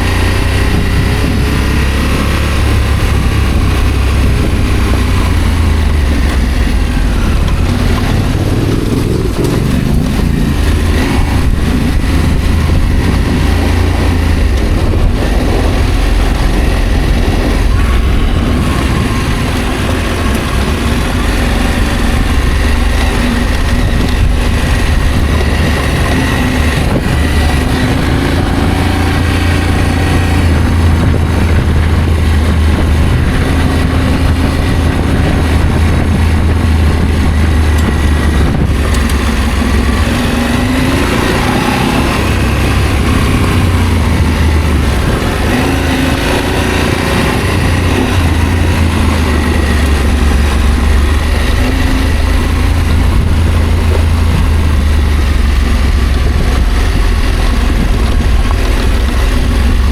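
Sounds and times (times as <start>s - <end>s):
motorcycle engine revving: 0.0s - 59.9s
wind rumble on microphone: 0.0s - 59.9s.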